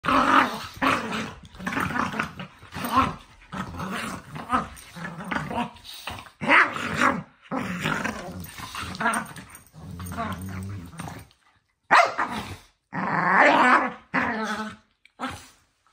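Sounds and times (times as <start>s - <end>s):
dogs growling: 0.0s - 11.4s, 12.2s - 15.6s.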